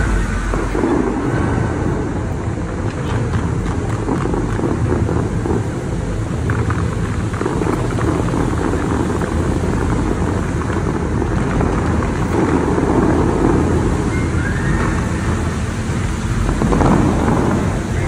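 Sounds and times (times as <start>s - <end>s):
fountain water jets hissing: 0.0s - 18.0s
wind buffeting microphone: 0.0s - 18.0s.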